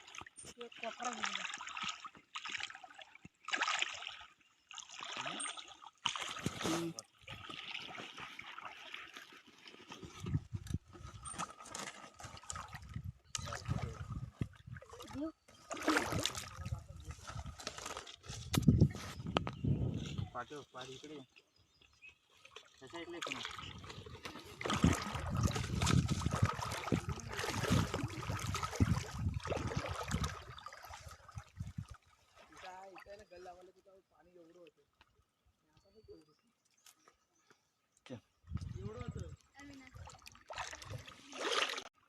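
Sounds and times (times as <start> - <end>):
shallow water trickling: 0.0 - 42.0.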